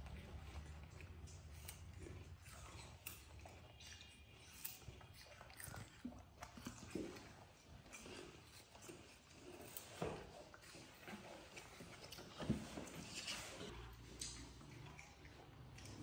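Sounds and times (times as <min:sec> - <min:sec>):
monkey chewing food: 0:00.0 - 0:16.0.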